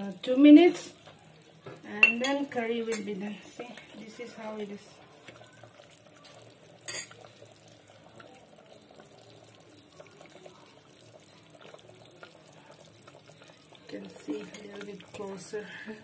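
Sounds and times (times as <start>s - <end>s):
curry bubbling in a pot: 0.0s - 16.0s.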